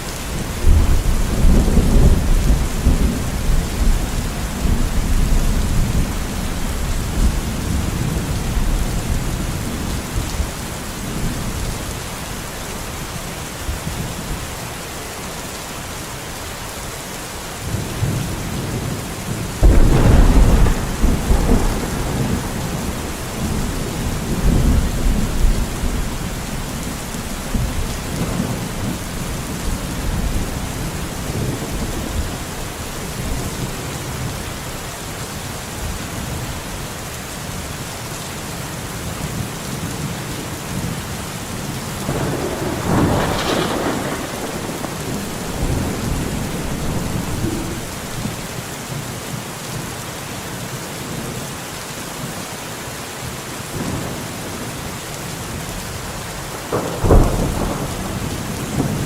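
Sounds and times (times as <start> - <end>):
rain falling in a forest: 0.0 - 59.0.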